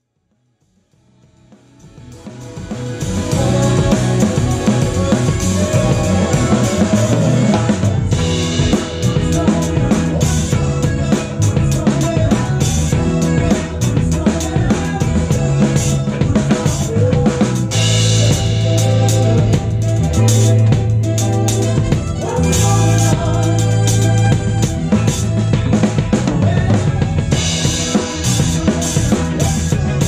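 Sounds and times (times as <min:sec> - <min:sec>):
drum kit played with sticks: 0:00.8 - 0:30.0
live band: 0:00.8 - 0:30.0.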